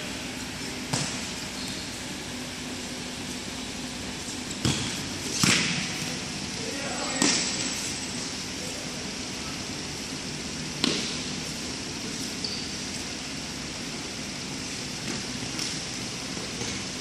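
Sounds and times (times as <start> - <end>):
indoor court background noise: 0.0 - 17.0.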